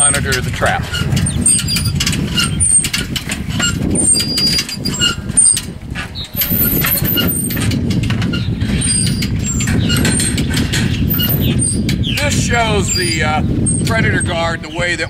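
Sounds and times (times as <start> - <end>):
low rumble: 0.0 - 15.0
birds chirping: 0.9 - 7.6, 8.4 - 15.0.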